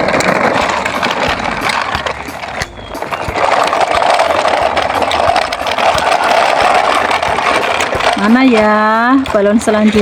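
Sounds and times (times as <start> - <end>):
toy truck whirring: 0.0 - 10.0.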